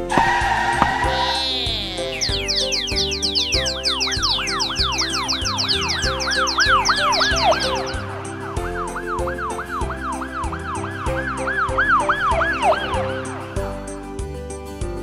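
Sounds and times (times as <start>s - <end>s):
background music with steady beat: 0.0s - 15.0s
cartoon siren warbling: 0.7s - 13.0s.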